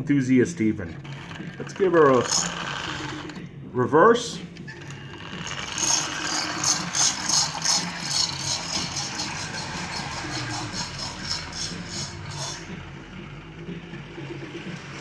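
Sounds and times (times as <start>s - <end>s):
toy steam locomotive chuffing: 1.0s - 3.4s, 4.8s - 15.0s
toy train motor humming: 1.0s - 3.4s, 4.8s - 15.0s
toy train rattling on track: 1.0s - 3.4s, 4.8s - 15.0s.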